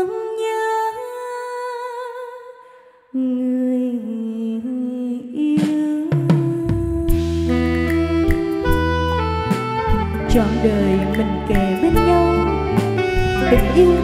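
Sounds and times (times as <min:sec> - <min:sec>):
woman singing through microphone: 0:00.0 - 0:02.6, 0:03.2 - 0:09.0, 0:10.1 - 0:14.0.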